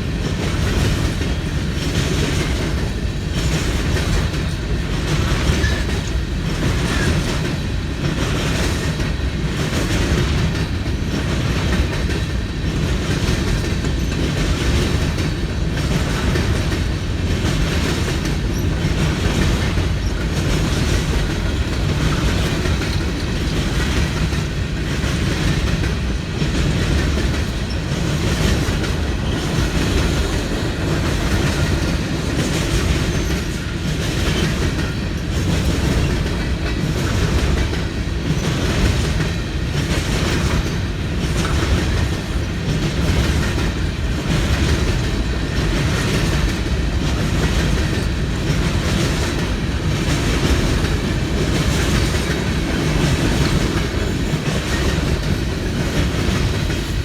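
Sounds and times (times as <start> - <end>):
freight train rumble: 0.0 - 57.0
train wheels clicking over rail joints: 0.0 - 57.0.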